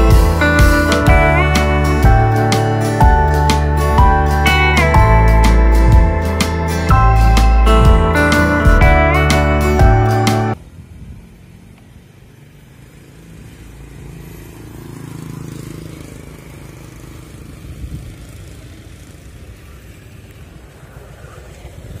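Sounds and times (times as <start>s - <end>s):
road vehicle passing: 0.0s - 22.0s.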